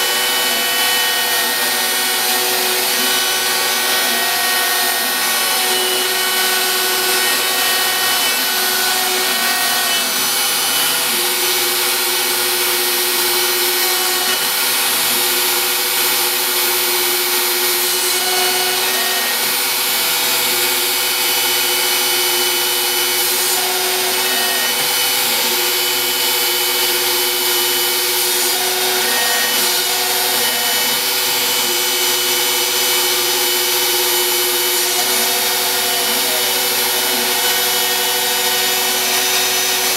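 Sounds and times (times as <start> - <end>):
router bit cutting wood: 0.0 - 39.9.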